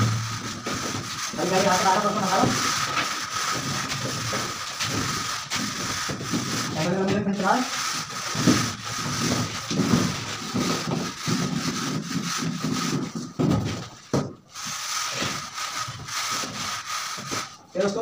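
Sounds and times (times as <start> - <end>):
straightedge scraping plaster wall: 0.0 - 18.0.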